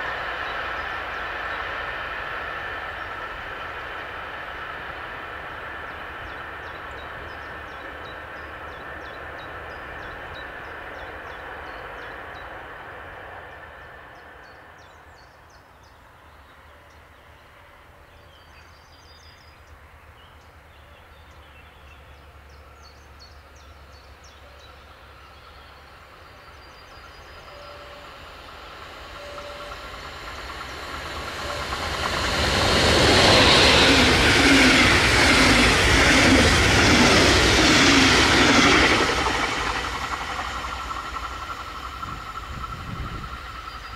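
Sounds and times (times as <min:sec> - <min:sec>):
electric train humming and whining: 0:00.0 - 0:43.9
train rushing past: 0:00.0 - 0:43.9.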